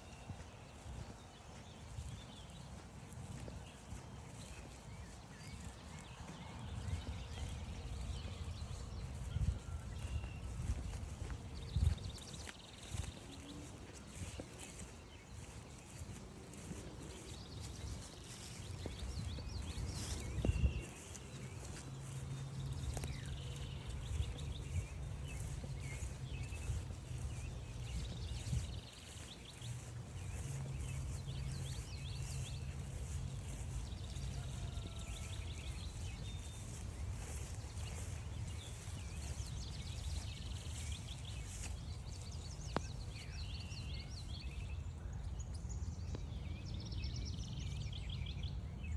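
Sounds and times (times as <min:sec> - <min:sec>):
songbirds chirping and singing: 0:00.0 - 0:48.9.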